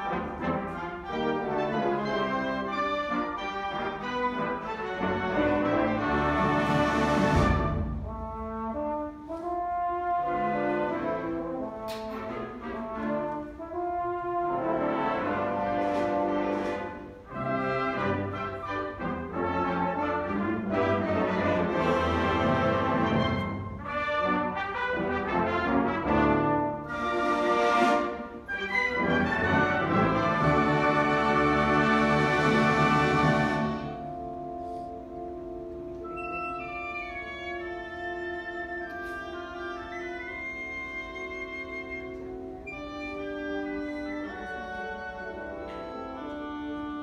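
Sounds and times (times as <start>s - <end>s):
orchestral music with brass: 0.0s - 47.0s.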